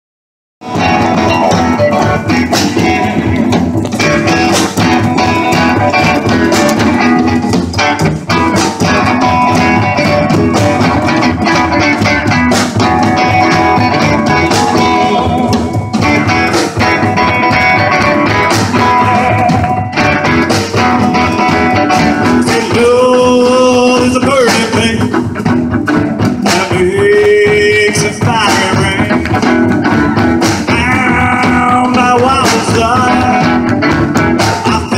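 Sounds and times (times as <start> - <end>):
guitar: 0.6 - 34.9
live band playing: 0.6 - 34.9.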